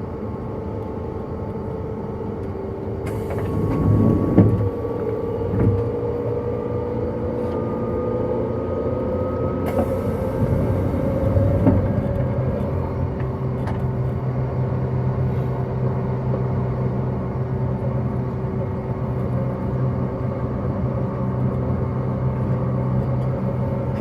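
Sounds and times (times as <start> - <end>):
wheels rumbling on rail: 0.0 - 24.0
train motor whine: 0.4 - 19.9.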